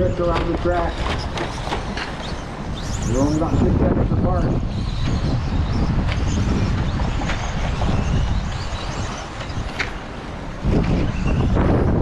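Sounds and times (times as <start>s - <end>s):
radio-controlled trucks running: 0.0s - 12.0s
wind on microphone: 0.0s - 12.0s.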